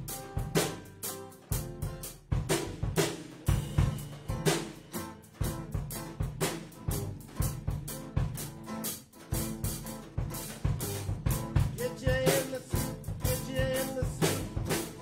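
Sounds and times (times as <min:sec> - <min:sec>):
drum kit beat: 0:00.0 - 0:15.0
strummed electric guitar chords: 0:00.0 - 0:15.0.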